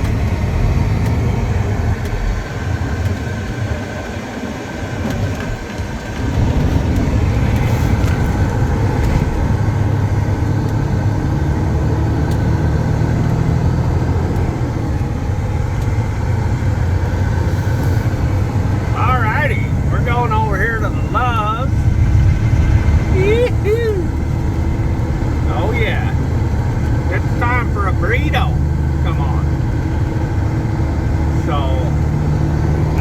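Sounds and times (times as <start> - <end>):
road noise: 0.0 - 33.0
truck engine running: 0.0 - 33.0.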